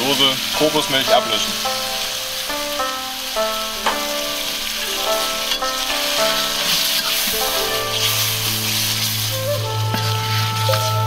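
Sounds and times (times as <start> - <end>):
background music with held notes: 0.0 - 11.0
metal spatula scraping wok: 0.0 - 11.0
stir-fry sizzling in wok: 0.0 - 11.0.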